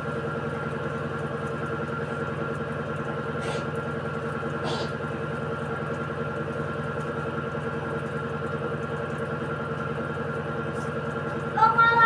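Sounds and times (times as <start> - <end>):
washing machine spin cycle: 0.0 - 12.0.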